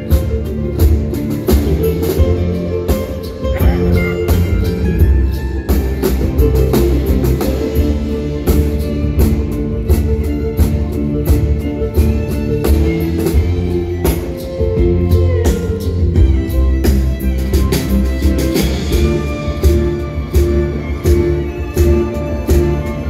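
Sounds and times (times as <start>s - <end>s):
band with symphony orchestra: 0.0s - 23.0s
held orchestral notes: 0.0s - 23.0s
mandolin: 0.0s - 23.0s
drum beat: 0.1s - 23.0s.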